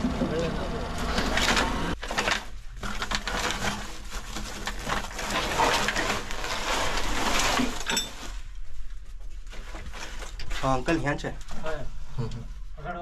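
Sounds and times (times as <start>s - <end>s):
debris rustling and crackling: 0.0s - 11.7s.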